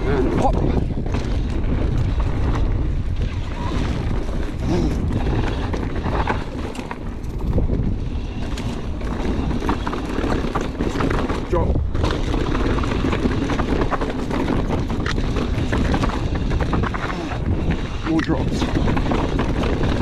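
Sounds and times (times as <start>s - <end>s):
bike rattling: 0.0s - 20.0s
bike tyres rolling on dirt: 0.0s - 20.0s
wind buffeting microphone: 0.0s - 20.0s.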